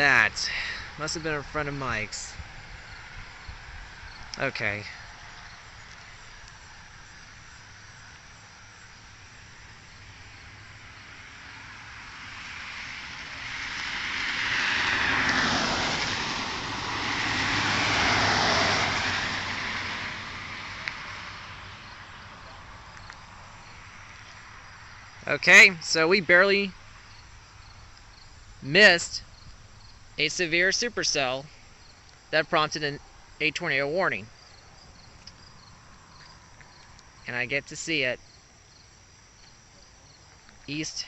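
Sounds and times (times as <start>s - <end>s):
road vehicle passing: 0.0s - 41.0s.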